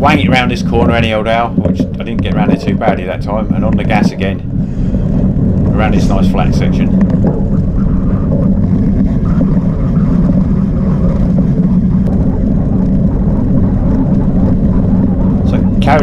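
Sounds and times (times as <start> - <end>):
bike tyres rumbling over grass: 0.0 - 16.0
wind on microphone: 0.0 - 16.0.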